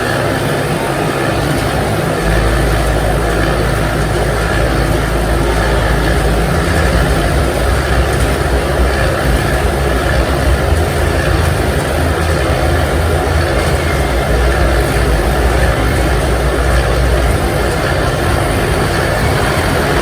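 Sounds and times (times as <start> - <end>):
motorcycle engines droning: 0.0 - 20.0.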